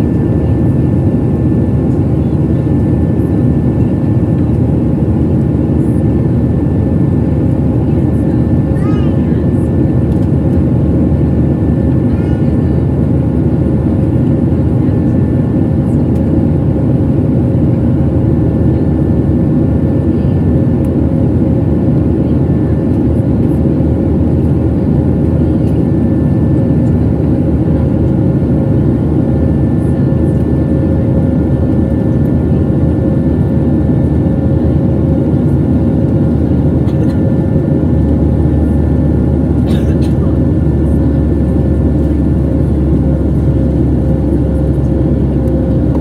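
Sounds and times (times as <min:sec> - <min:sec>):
airplane cabin roar: 0:00.0 - 0:46.0
constant hum: 0:00.0 - 0:46.0.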